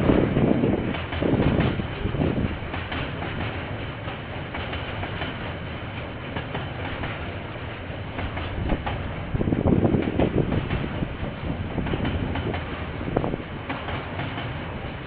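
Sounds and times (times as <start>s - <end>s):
train wheels clicking over rail joints: 0.0s - 15.0s.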